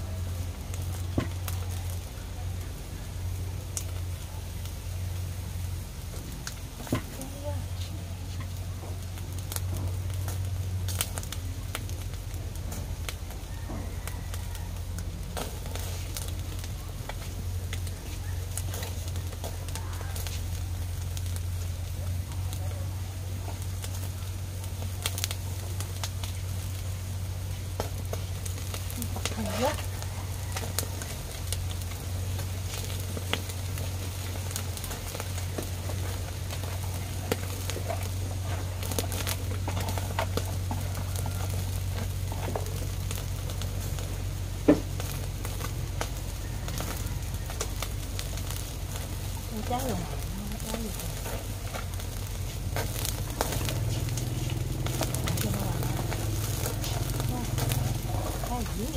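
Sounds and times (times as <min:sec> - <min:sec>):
fish sizzling on a grill: 0:00.0 - 0:58.9
wood fire crackling and popping: 0:00.0 - 0:58.9.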